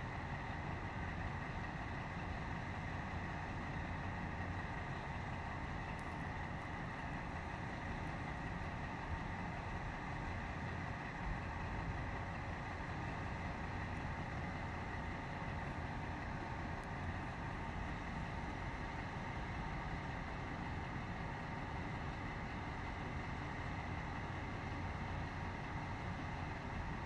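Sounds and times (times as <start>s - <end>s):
diesel locomotive engine rumble: 0.0s - 27.0s
faint steady hum: 0.0s - 27.0s.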